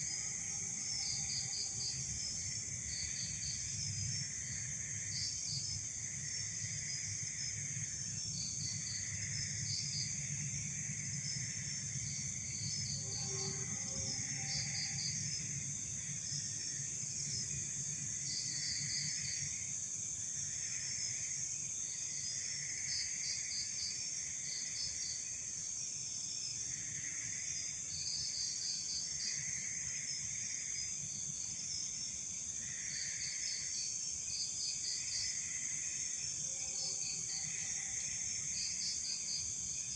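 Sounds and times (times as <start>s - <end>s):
crickets chirping: 0.0s - 39.9s
insects buzzing: 0.0s - 39.9s.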